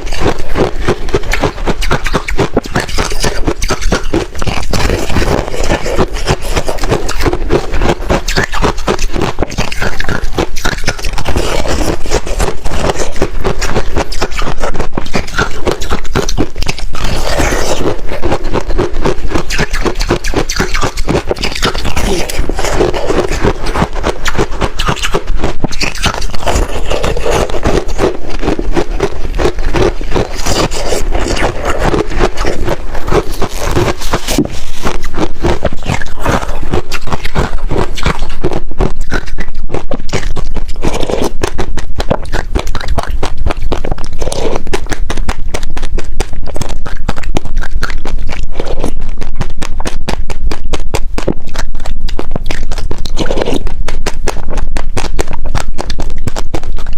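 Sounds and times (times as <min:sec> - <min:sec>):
freezer frost crunching: 0:00.0 - 0:56.9.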